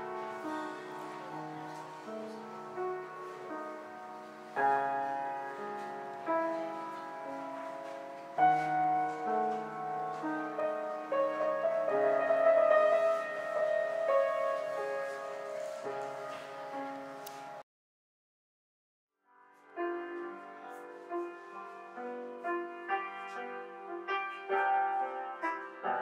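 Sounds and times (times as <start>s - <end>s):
grand piano chords: 0.0s - 17.6s, 19.4s - 26.0s.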